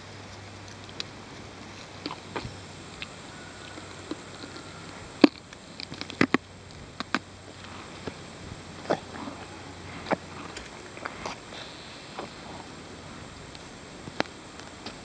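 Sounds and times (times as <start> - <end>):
horse munching a carrot: 0.7 - 15.0.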